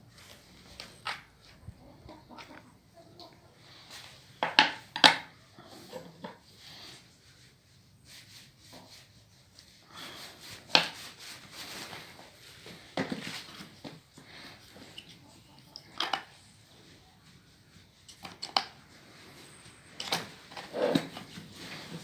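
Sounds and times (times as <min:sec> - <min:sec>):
faint rubbing and scraping: 0:03.5 - 0:22.0.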